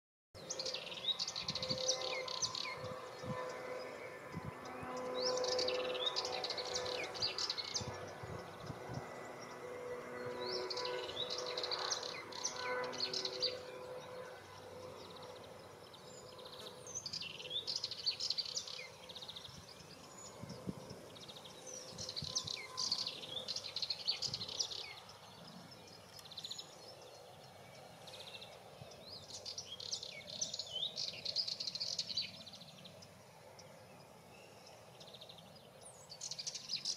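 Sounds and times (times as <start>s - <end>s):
warbler chattering song: 0.4s - 36.9s.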